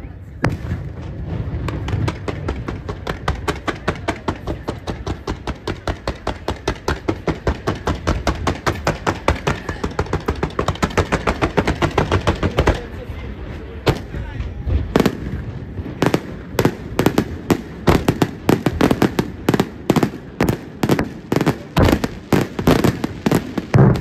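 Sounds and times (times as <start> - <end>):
fireworks bangs: 0.4 - 24.0.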